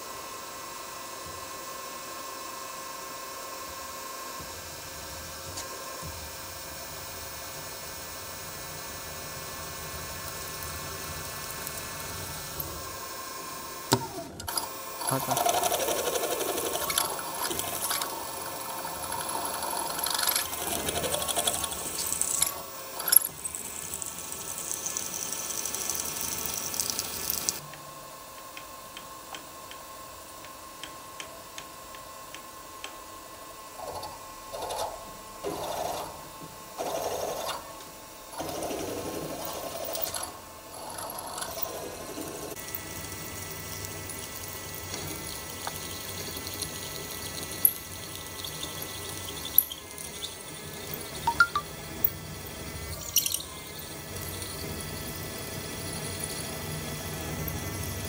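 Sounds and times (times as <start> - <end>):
bench drill milling machine whine: 0.0 - 28.3, 33.6 - 58.0.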